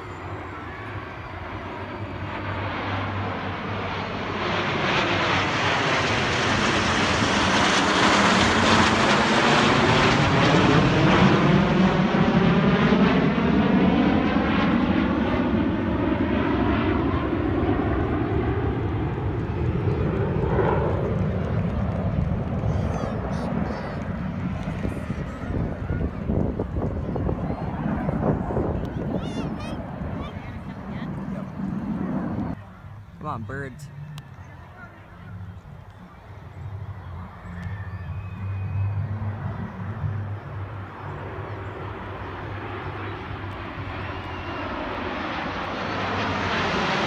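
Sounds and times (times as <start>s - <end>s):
jet engines roaring overhead: 0.0s - 47.0s.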